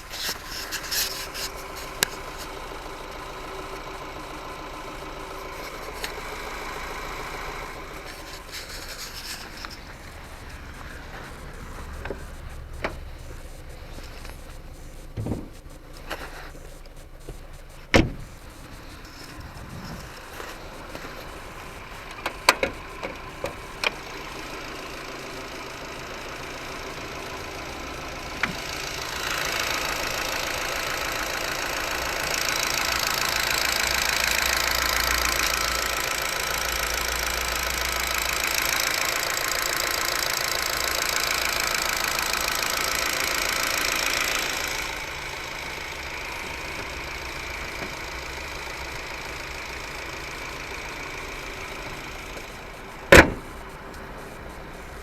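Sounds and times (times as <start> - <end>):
car engine idling with knocking: 0.0 - 55.0.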